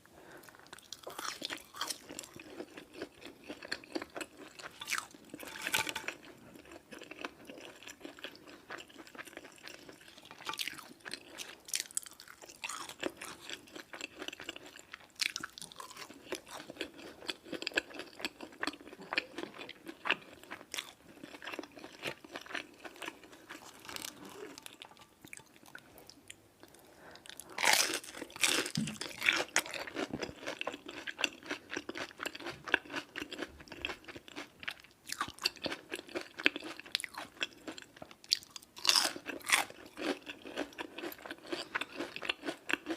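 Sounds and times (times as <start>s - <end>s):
person chewing crunchy food: 0.2s - 42.9s.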